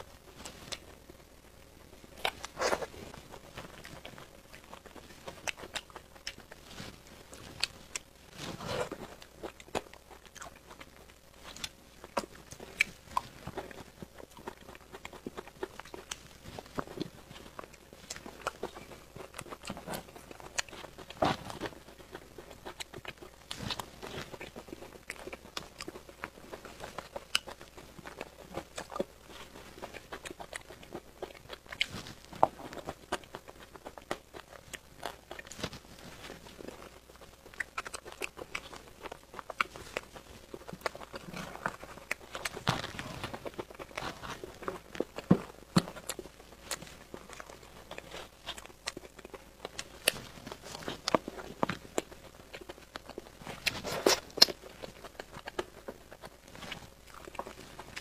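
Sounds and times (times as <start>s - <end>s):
soft chewing: 0.0s - 58.0s.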